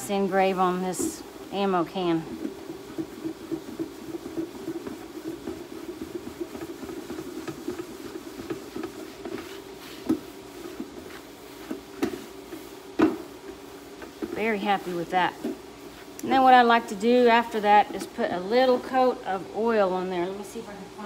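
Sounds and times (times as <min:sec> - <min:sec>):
paper towel wiping metal lid: 0:00.0 - 0:18.2
steady low hum: 0:00.0 - 0:21.0.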